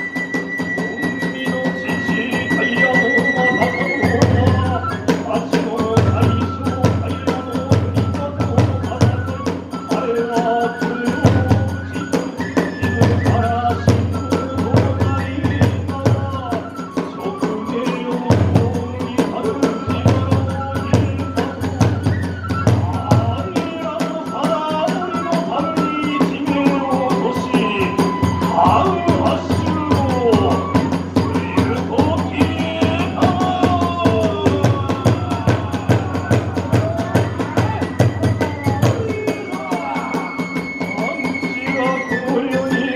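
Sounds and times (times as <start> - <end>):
bamboo flute melody: 0.0 - 42.9
drums beating: 0.0 - 42.9.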